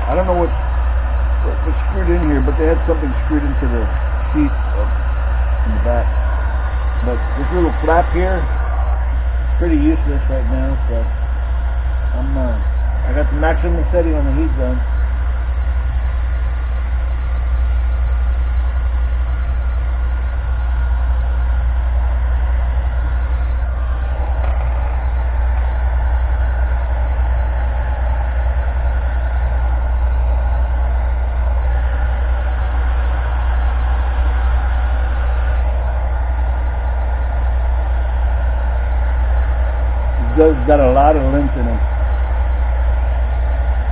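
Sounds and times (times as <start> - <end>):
heat gun blowing hum: 0.0 - 43.9.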